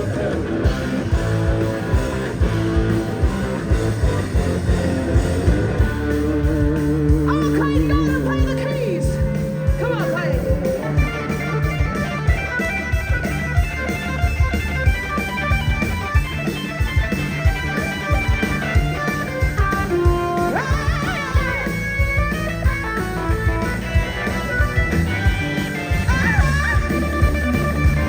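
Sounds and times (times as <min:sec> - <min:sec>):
electric guitar: 0:00.0 - 0:28.0
live rock band playing: 0:00.0 - 0:28.0.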